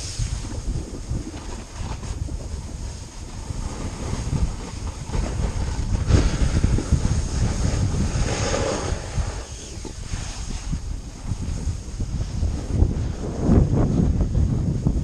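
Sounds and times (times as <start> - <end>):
snowboard sliding over packed snow: 0.0 - 15.0
wind buffeting microphone: 0.0 - 15.0.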